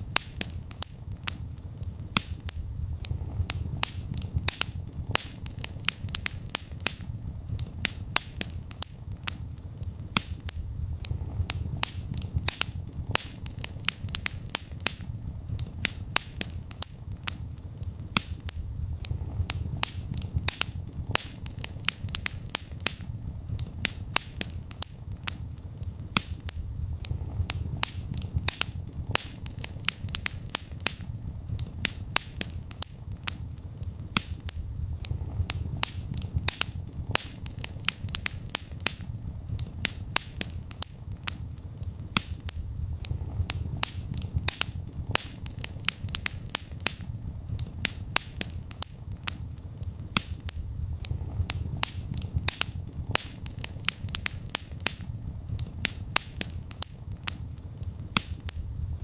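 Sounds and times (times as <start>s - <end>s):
low rumble of fire: 0.0s - 59.0s
wood fire crackling: 0.0s - 59.0s.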